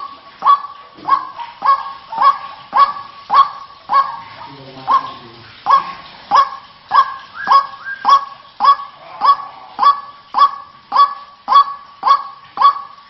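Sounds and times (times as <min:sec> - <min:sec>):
waterhen honking call: 0:00.0 - 0:13.0.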